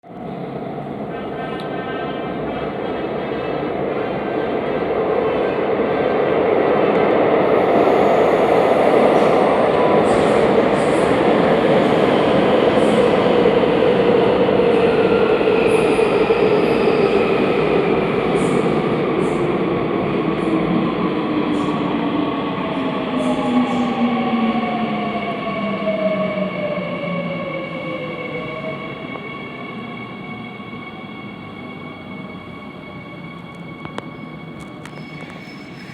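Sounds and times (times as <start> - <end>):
train rumbling on rails: 0.1 - 35.9.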